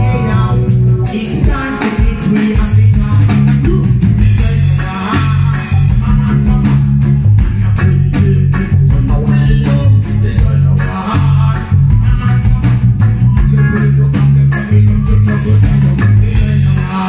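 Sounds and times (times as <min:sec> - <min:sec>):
man singing: 0:00.0 - 0:17.0
reggae band playing: 0:00.0 - 0:17.0.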